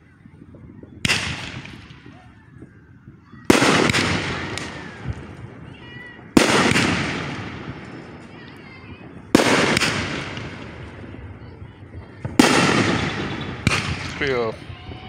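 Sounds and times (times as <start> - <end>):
fireworks bursting with crackling tail: 0.0 - 15.0.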